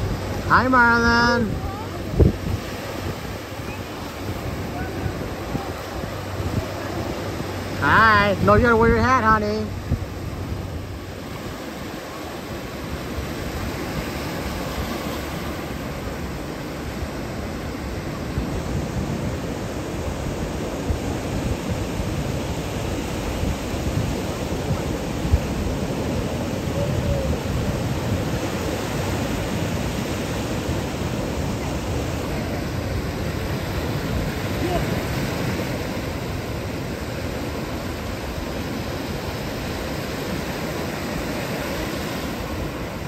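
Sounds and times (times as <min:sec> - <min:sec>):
surf breaking on sandy beach: 0:00.0 - 0:43.0.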